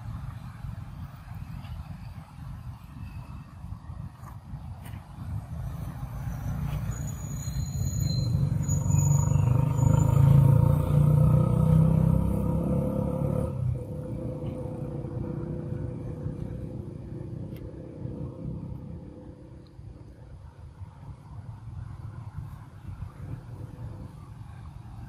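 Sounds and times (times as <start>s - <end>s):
passing vehicle engine rumble: 0.0s - 25.0s.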